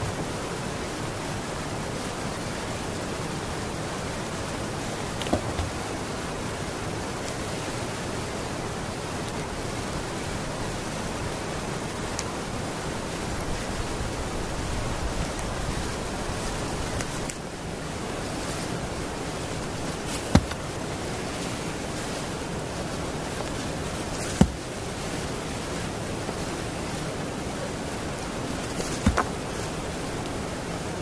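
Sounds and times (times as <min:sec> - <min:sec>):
rain on forest floor: 0:00.0 - 0:31.0.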